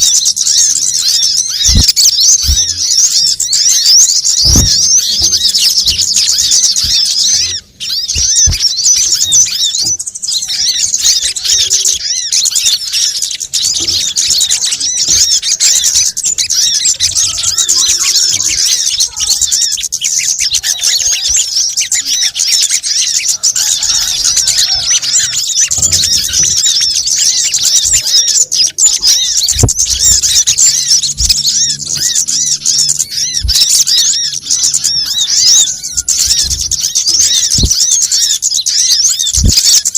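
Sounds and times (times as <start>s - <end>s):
songbirds chattering and chirping: 0.0s - 39.9s.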